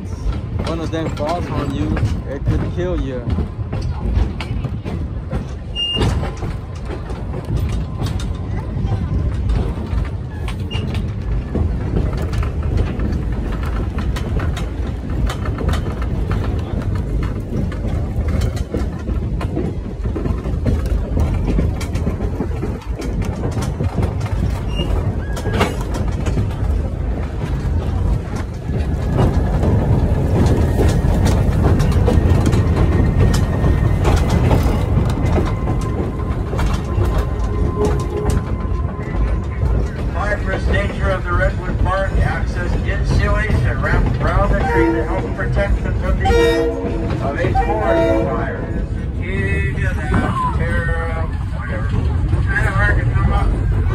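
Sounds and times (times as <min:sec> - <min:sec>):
train rumbling on track: 0:00.0 - 0:53.9
wheels clicking on rails: 0:00.0 - 0:53.9.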